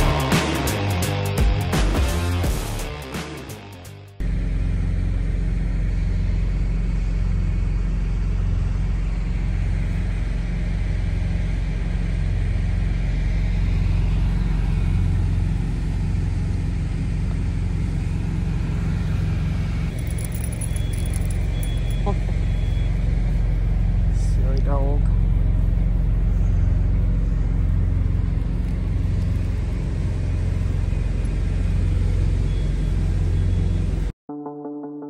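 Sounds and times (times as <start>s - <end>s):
truck engine and road drone: 0.0s - 34.2s.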